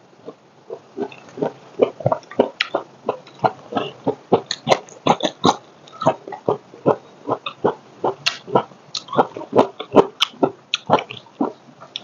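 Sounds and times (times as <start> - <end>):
chewing: 0.2 - 12.0.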